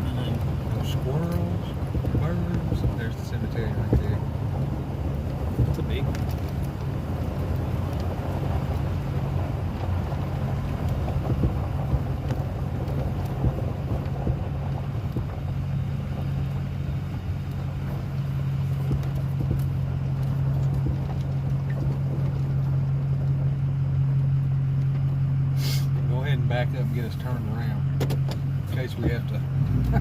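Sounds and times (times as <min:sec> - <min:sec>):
car engine humming: 0:00.0 - 0:30.0
road and wind noise: 0:00.0 - 0:30.0.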